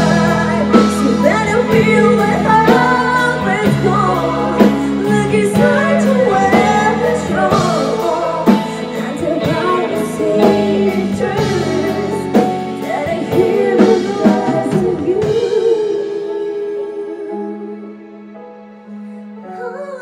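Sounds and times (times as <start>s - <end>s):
drum kit and cymbal hits: 0.0s - 16.7s
woman singing: 0.0s - 18.2s, 19.4s - 20.0s
bass: 0.0s - 18.4s
keyboard chords: 0.0s - 20.0s
pop ballad band playing: 0.0s - 20.0s.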